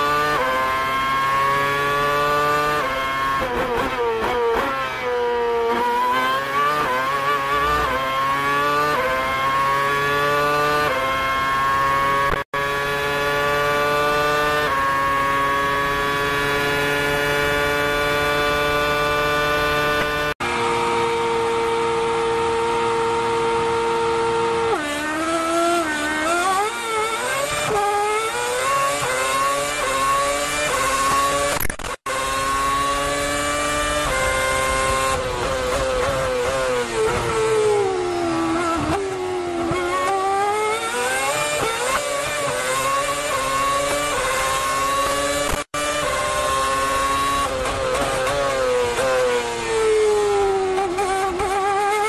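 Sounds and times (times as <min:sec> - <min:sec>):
racing engines revving: 0:00.0 - 0:52.0.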